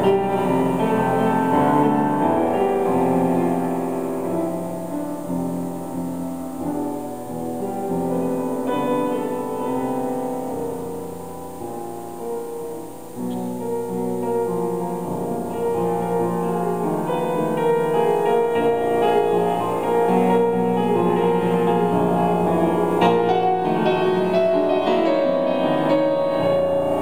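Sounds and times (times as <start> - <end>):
grand piano playing: 0.0 - 27.0.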